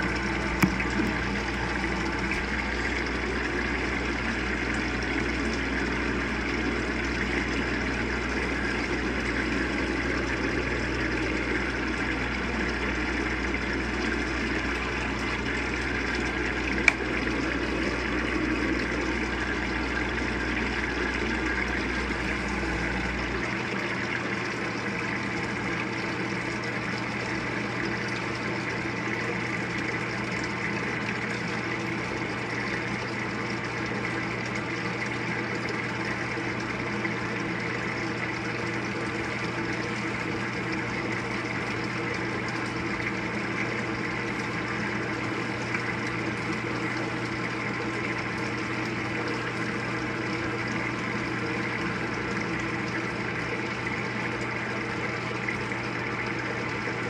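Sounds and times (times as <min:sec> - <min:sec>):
low machine hum: 0:00.0 - 0:57.0
water streaming into a tub: 0:00.0 - 0:57.0.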